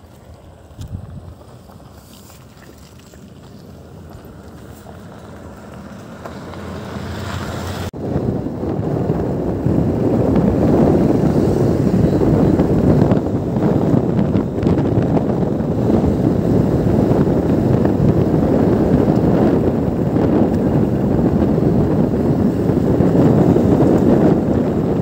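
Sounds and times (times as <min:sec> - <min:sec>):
road noise: 0:00.0 - 0:25.0
wind buffeting microphone: 0:00.0 - 0:25.0
scooter engine: 0:02.9 - 0:25.0.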